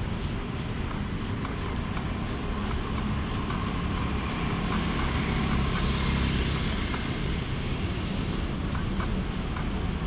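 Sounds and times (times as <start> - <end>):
distant city traffic rumble: 0.0 - 10.0.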